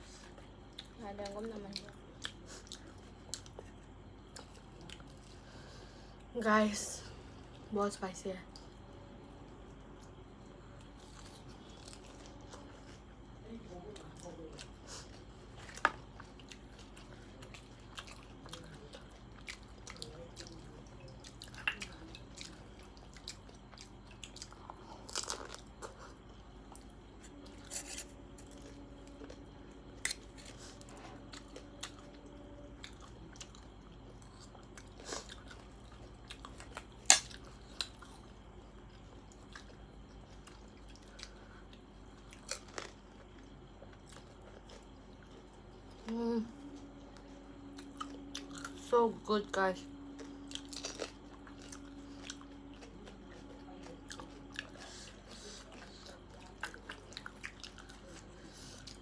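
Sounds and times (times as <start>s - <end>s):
chewing crunchy snack: 0.0s - 6.3s, 8.5s - 48.9s, 50.0s - 59.0s.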